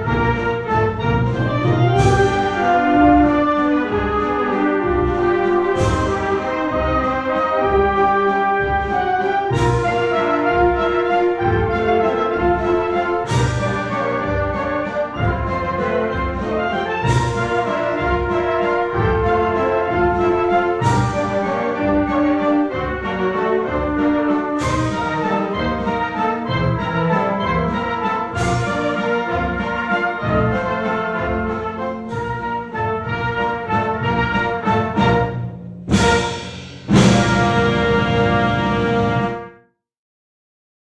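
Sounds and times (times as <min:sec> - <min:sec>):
wind band playing a waltz: 0:00.0 - 0:39.6.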